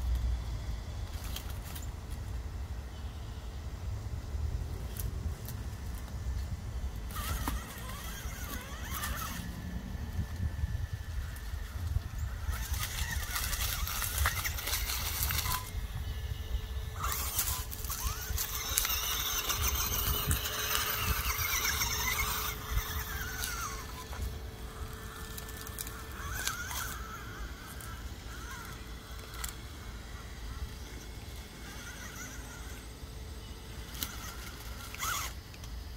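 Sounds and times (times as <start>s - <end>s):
motor and gear whine: 0.0s - 35.9s
tyres crackling on leaves: 0.0s - 35.9s.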